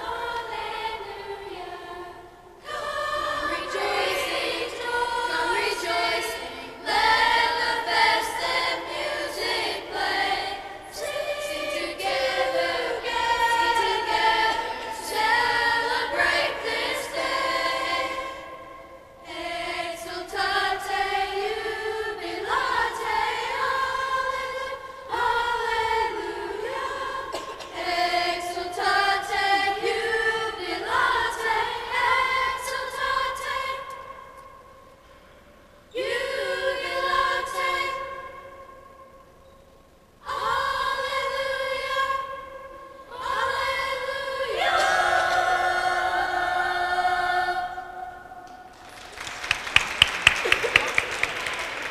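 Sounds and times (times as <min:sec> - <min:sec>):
choir singing slow song: 0:00.0 - 0:49.0.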